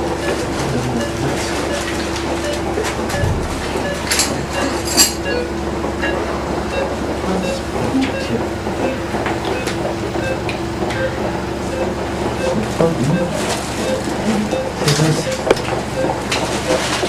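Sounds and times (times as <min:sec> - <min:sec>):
instruments clicking and clinking: 0:00.0 - 0:17.0
machine hum: 0:00.0 - 0:17.0.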